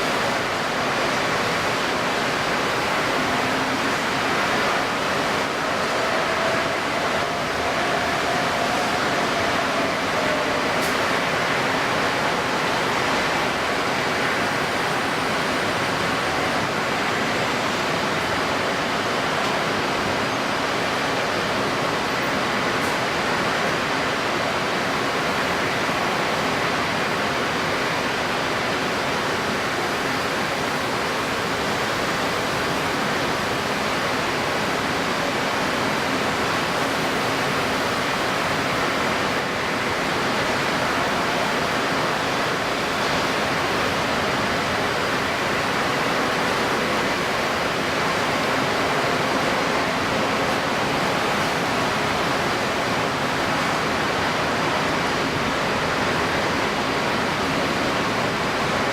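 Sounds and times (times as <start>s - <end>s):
choppy water rushing: 0.0s - 58.9s
wind: 0.0s - 58.9s.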